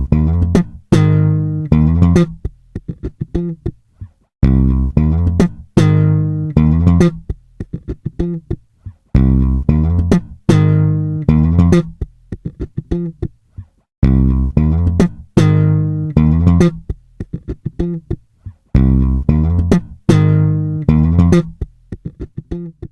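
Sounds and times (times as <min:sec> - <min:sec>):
plucked guitar and bass music: 0:00.0 - 0:22.9.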